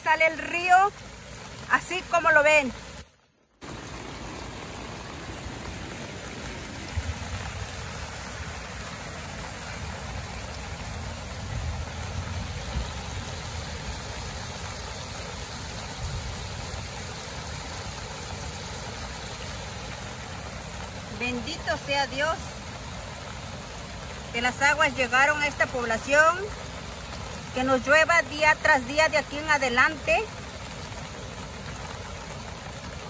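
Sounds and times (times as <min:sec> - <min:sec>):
river rushing over a weir: 0:01.4 - 0:33.0.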